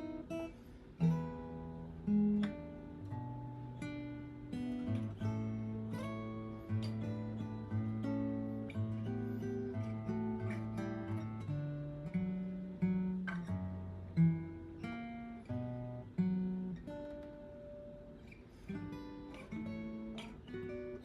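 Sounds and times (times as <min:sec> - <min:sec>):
guitar notes and chords: 0:00.0 - 0:21.0.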